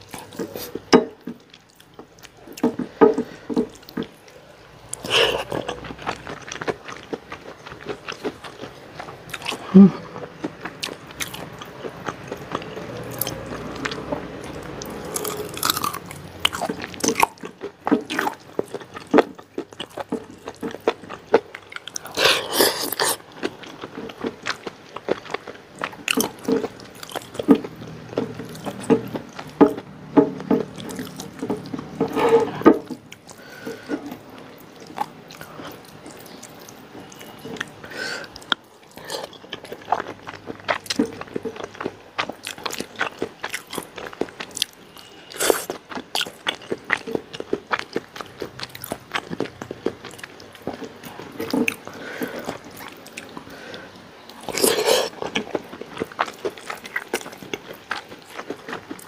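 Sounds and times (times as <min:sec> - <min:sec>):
close-up chewing food: 0:00.0 - 0:59.0.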